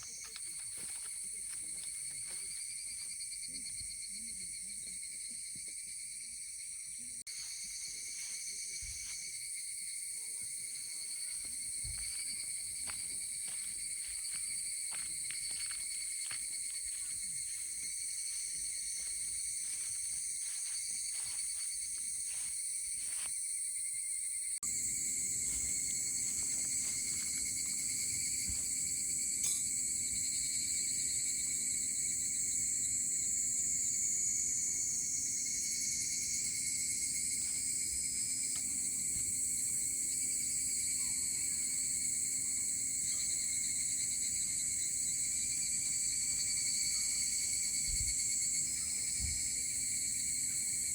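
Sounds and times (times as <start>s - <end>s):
insects chirping: 0.0s - 50.9s.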